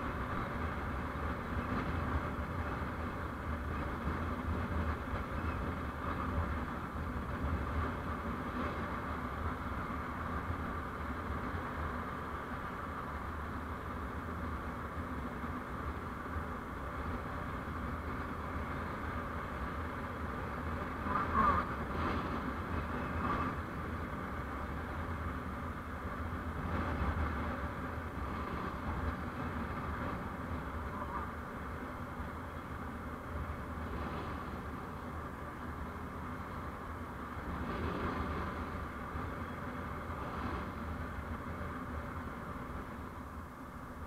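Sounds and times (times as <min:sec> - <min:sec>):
vehicle road and engine noise: 0:00.0 - 0:44.0.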